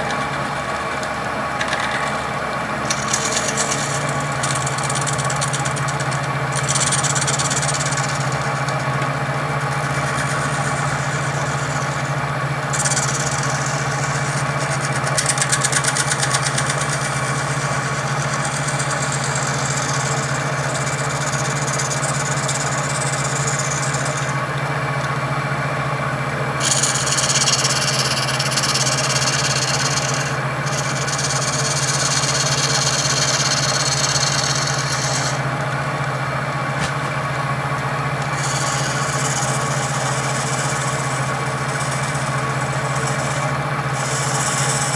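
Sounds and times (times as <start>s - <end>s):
turning tool scraping: 0.0s - 24.4s, 26.6s - 35.6s, 38.2s - 44.9s
lathe motor hum: 0.0s - 44.9s
tool chattering: 1.5s - 2.2s, 2.8s - 24.4s, 26.6s - 35.5s, 38.2s - 44.9s.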